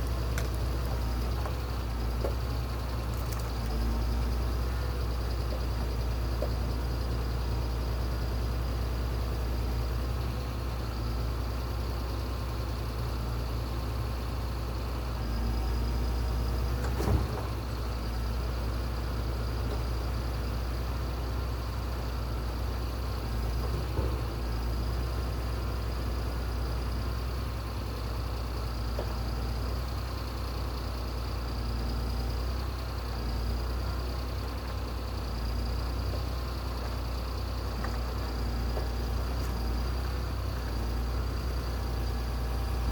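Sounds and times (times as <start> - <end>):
heavy machine engine droning: 0.0 - 42.9.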